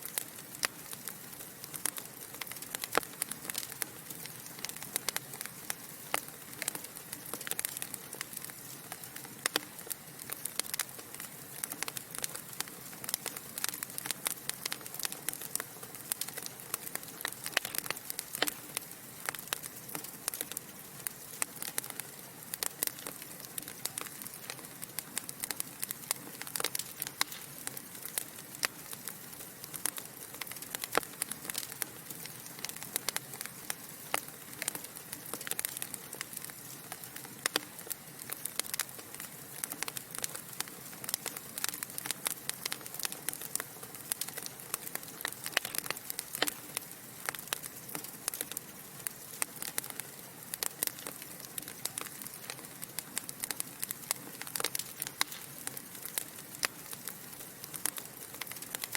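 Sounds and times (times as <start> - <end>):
fire hissing: 0.0 - 58.9
wood fire crackling and popping: 0.0 - 58.9.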